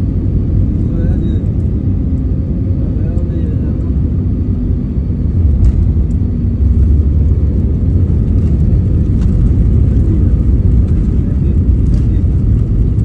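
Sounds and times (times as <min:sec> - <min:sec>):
wheels rumbling on runway: 0:00.0 - 0:13.0.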